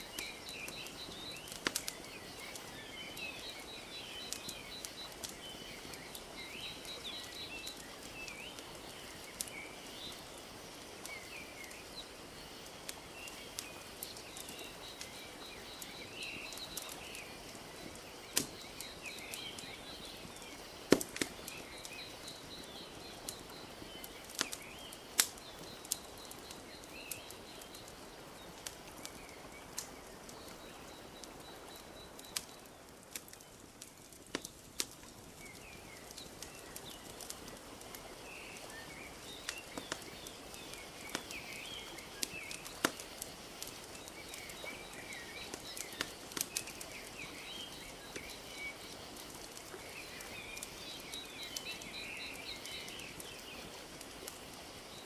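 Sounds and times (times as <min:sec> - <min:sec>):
small birds chirping: 0:00.0 - 0:55.0
wood fire crackling: 0:00.0 - 0:55.0.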